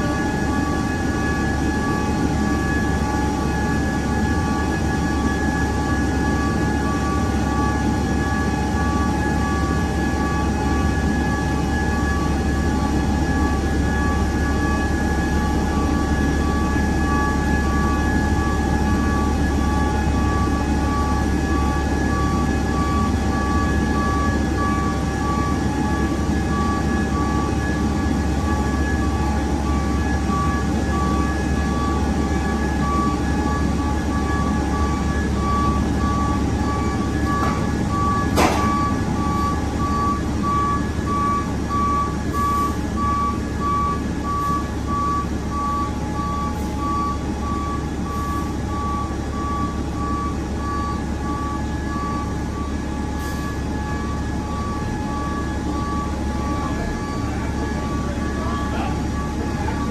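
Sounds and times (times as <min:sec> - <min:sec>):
fire truck engine droning: 0:00.0 - 0:59.9
reversing alarm beeping: 0:00.0 - 0:59.9.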